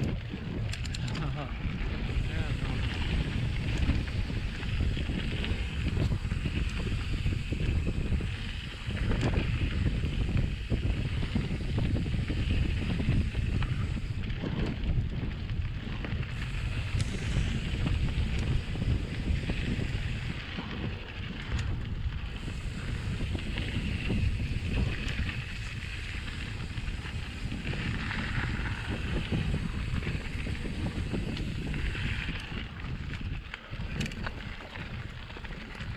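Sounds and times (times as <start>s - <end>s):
rumble of bike tyres: 0.0s - 35.9s
wind buffeting microphone: 0.0s - 35.9s.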